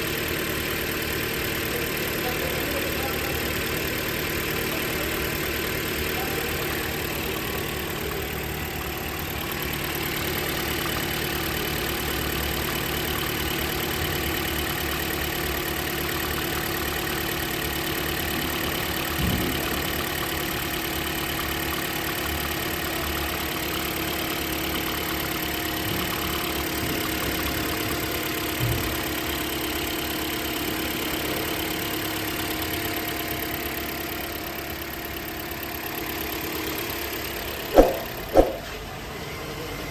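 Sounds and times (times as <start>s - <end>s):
engine idling: 0.0s - 38.3s.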